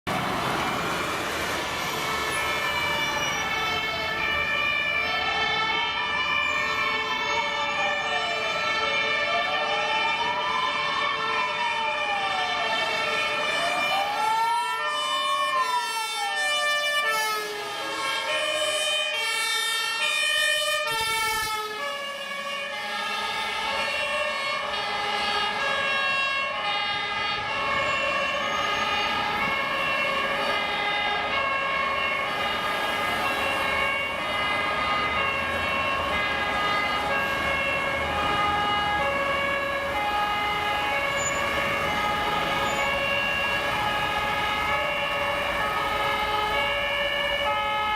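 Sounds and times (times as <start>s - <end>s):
heavy vehicle engine and road noise: 0.0s - 47.9s
two-tone sirens: 0.0s - 47.9s
wailing siren: 0.1s - 47.9s.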